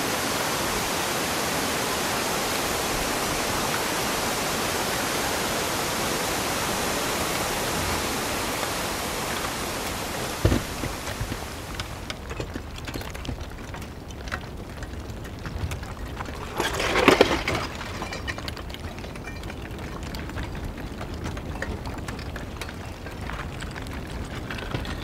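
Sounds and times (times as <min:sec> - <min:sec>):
lava crackling: 0:02.5 - 0:25.0.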